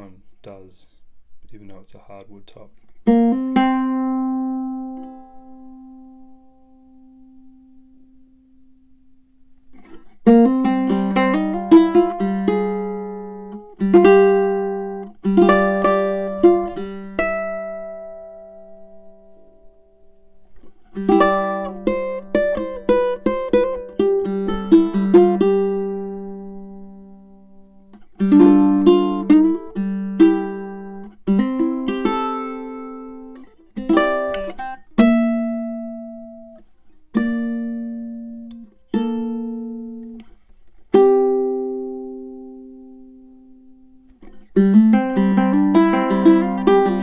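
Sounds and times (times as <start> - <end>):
ukulele plucked notes: 3.0 - 47.0
ukulele chords ringing: 3.1 - 40.3, 40.9 - 47.0.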